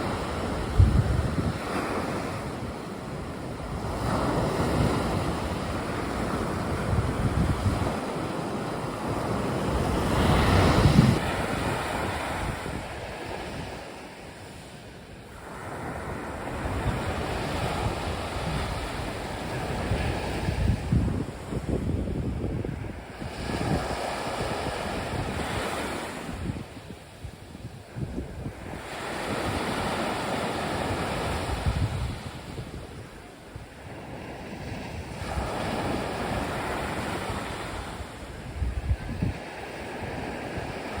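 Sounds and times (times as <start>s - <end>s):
wind buffeting microphone: 0.0s - 14.0s, 15.3s - 41.0s
sea waves washing on beach: 0.0s - 41.0s.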